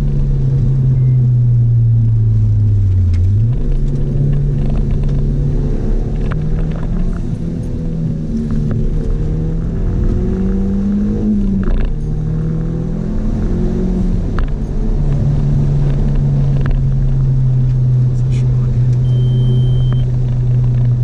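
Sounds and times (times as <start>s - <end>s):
car engine from inside cabin: 0.0s - 21.0s
low road rumble: 0.0s - 21.0s.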